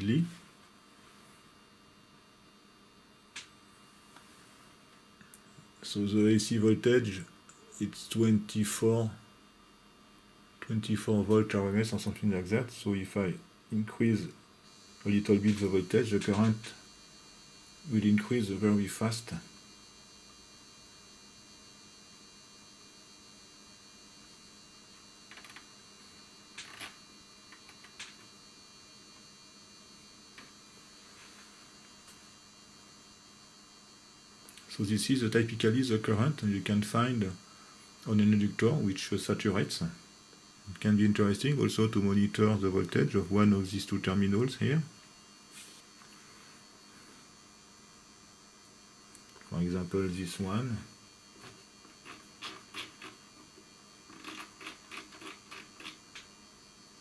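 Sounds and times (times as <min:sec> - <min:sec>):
faint electrical hum: 0:00.0 - 0:57.0.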